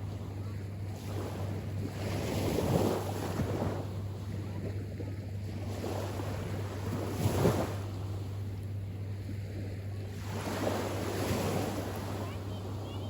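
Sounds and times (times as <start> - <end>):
small waves washing ashore: 0.0 - 13.0
wind buffeting the microphone: 0.0 - 13.0.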